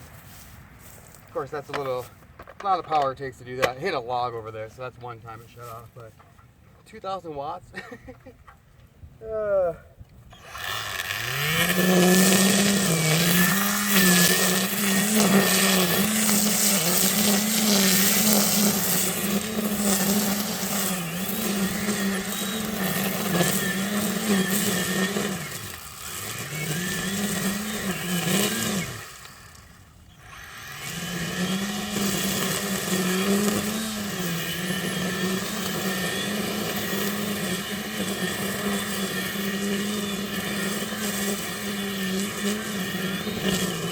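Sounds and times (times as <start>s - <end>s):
string trimmer cutting grass: 0.0s - 8.9s, 10.2s - 43.9s.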